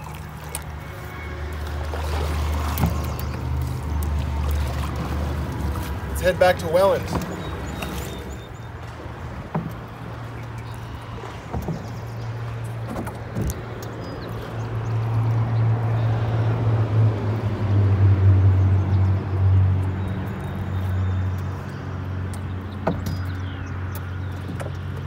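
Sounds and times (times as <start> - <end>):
traffic rumble on bridge: 0.0 - 25.0.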